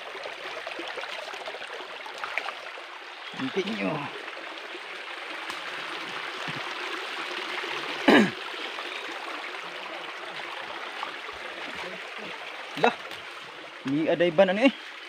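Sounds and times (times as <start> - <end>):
creek flowing over rocks: 0.0 - 15.0.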